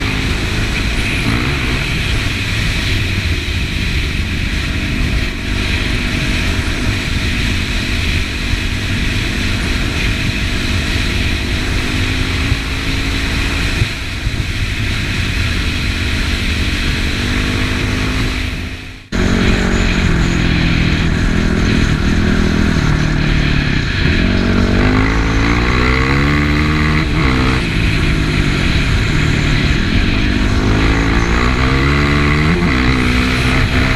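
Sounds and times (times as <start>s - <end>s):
dirt bike engine running: 0.0s - 33.9s.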